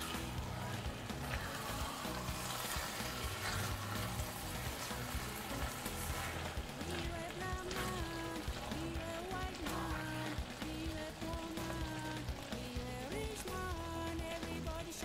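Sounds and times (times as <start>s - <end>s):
background music: 0.0s - 15.0s
relish sizzling in pot: 0.0s - 15.0s.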